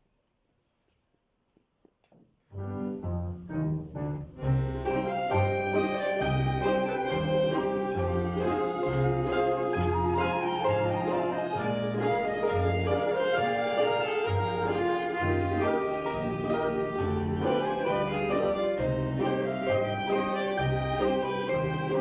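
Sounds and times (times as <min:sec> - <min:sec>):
folk instrument orchestra playing: 0:02.6 - 0:22.0.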